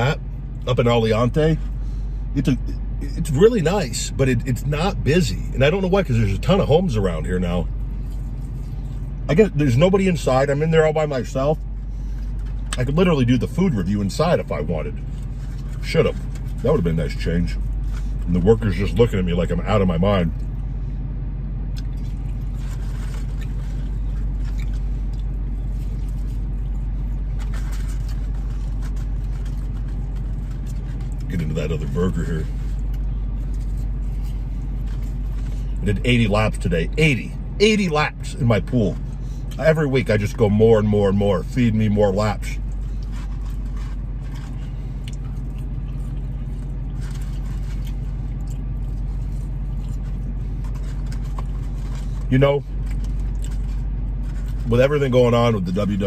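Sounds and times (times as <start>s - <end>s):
car engine idling: 0.0s - 56.0s
fries being chewed: 4.6s - 20.6s, 21.7s - 37.2s, 41.4s - 56.0s.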